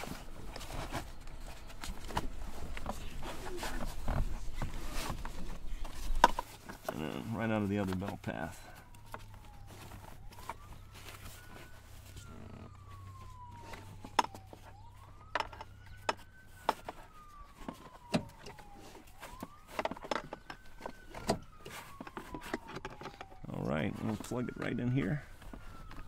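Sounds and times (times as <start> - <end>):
emergency siren wailing: 0.0 - 26.0.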